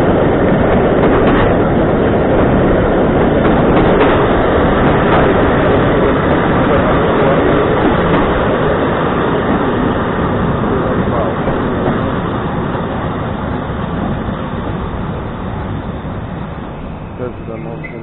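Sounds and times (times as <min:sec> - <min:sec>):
train wheel and rail noise: 0:00.0 - 0:18.0.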